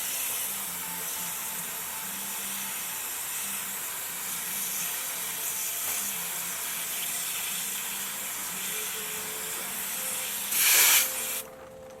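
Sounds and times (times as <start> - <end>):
spray hissing: 0.0 - 11.5.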